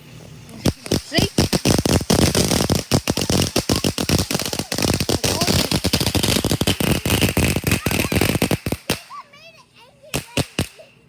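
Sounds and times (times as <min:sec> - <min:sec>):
firework pops and crackles: 0:00.2 - 0:09.2, 0:10.1 - 0:11.0.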